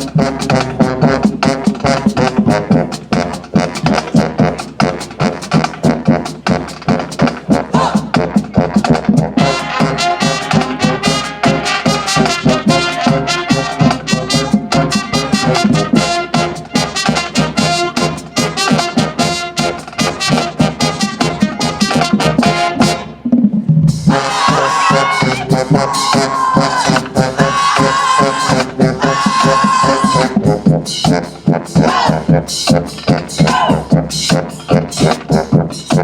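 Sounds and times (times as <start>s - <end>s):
marching band brass: 0.0s - 36.0s
rapid drum strikes: 0.0s - 36.0s.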